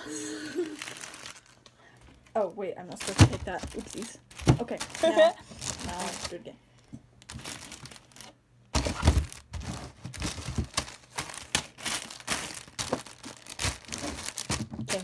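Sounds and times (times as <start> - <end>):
plastic packets crinkling: 0.6 - 6.5, 7.2 - 15.0.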